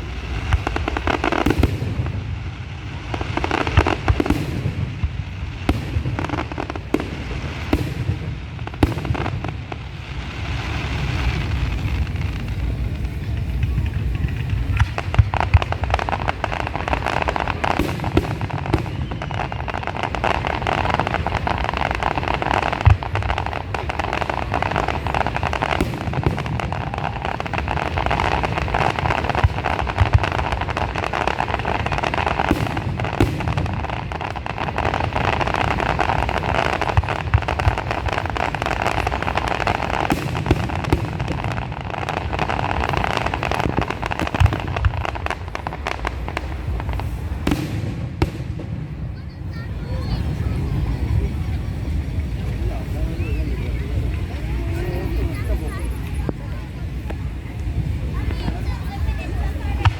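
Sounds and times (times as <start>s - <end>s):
deep fireworks booms: 0.0s - 59.9s
fireworks crackling: 0.0s - 59.9s
sharp fireworks bangs: 0.0s - 59.9s.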